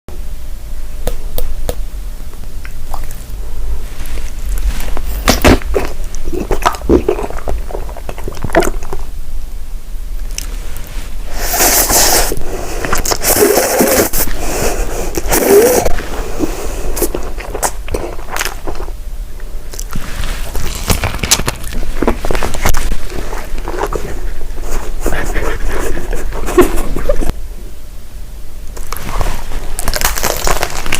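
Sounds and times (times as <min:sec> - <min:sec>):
chewing with crackles: 0:02.6 - 0:09.1, 0:10.2 - 0:11.0, 0:11.6 - 0:27.3, 0:28.7 - 0:30.9.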